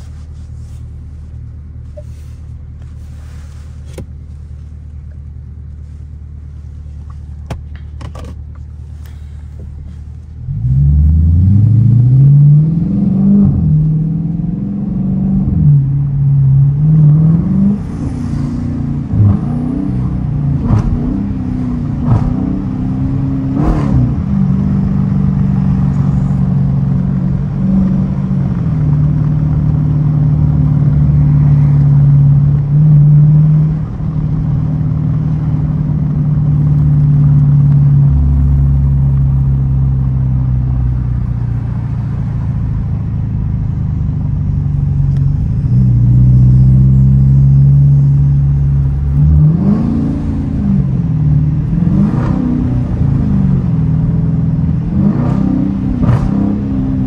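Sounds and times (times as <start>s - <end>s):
car engine from inside cabin: 0.0s - 57.0s.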